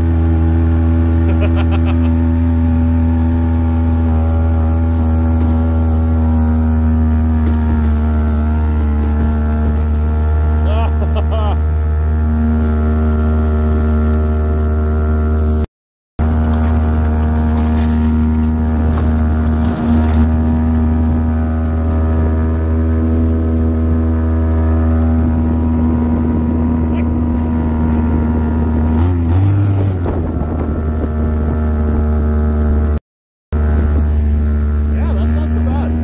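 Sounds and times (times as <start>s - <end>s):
atv engine droning: 0.0s - 36.0s.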